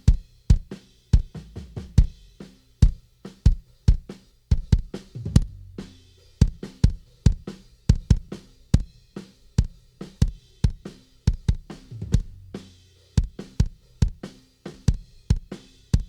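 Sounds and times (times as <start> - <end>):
drum kit playing a groove: 0.0 - 16.0.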